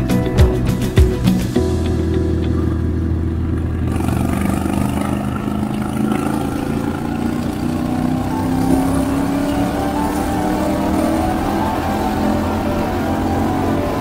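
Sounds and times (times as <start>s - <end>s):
motorcycle engine running: 0.5s - 14.0s.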